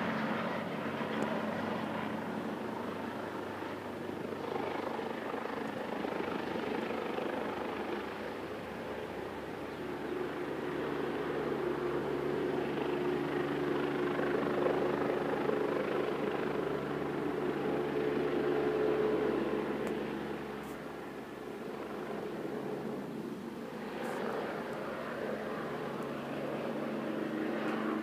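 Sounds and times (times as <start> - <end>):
distant helicopter rotor drone: 0.0 - 28.0.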